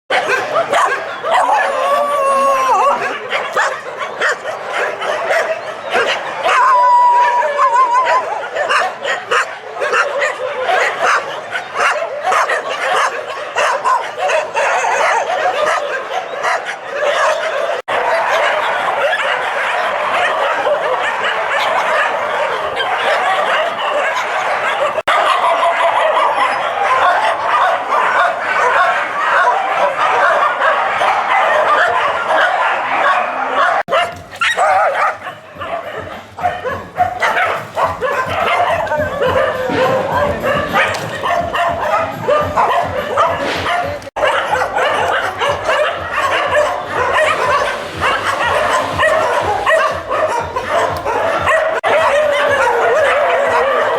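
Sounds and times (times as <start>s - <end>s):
dogs whimpering: 0.1s - 53.9s
many dogs barking and yipping: 0.1s - 53.9s.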